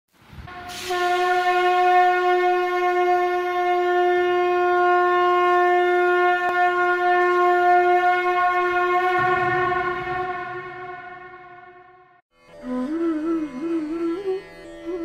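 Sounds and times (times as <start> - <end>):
conch shell blown: 0.5 - 15.0.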